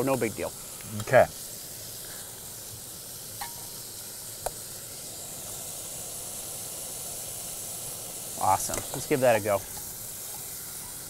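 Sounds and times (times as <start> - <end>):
ham sizzling in oil: 0.0 - 11.0.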